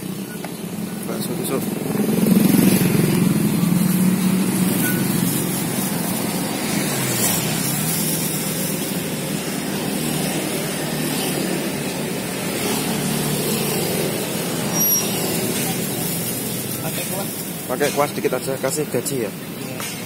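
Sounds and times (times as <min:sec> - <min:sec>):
vehicle engines passing: 0:00.0 - 0:20.0.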